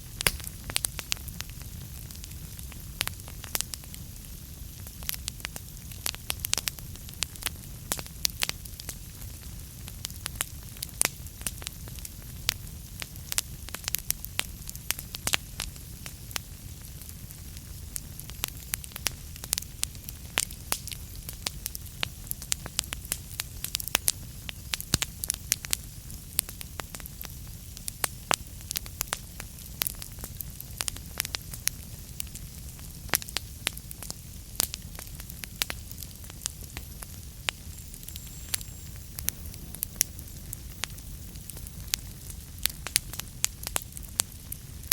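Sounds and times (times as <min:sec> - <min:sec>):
low rumble of flames: 0:00.0 - 0:44.9
wood fire crackling: 0:00.0 - 0:44.9.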